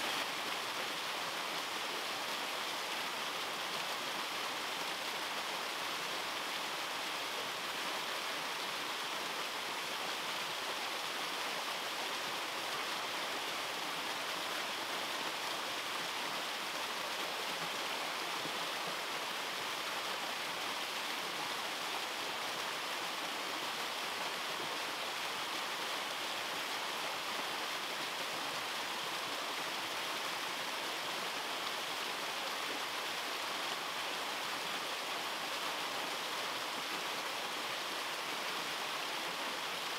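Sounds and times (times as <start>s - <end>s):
waterfall rushing over rock: 0.0s - 39.9s.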